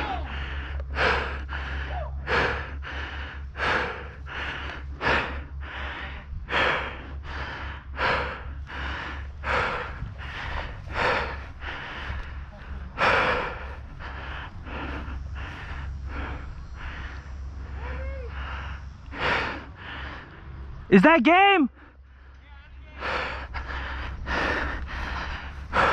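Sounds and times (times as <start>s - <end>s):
man panting hard: 0.0s - 21.0s, 21.7s - 25.9s.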